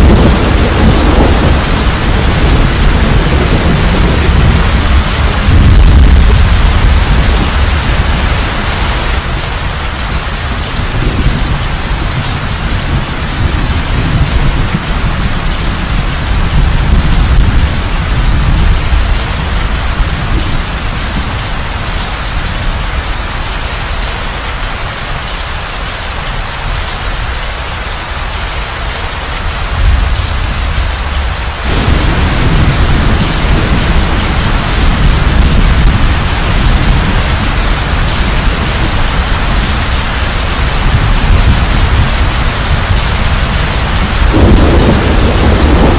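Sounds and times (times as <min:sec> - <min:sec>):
thunder rumbling: 0:00.0 - 0:21.8, 0:29.4 - 0:45.9
heavy rain: 0:00.0 - 0:45.9.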